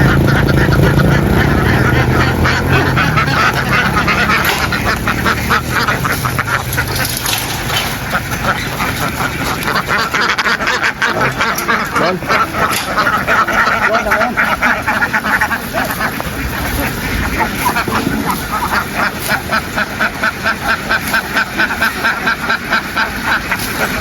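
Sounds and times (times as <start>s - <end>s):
ducks quacking: 0.0s - 24.0s
low engine hum: 0.0s - 24.0s.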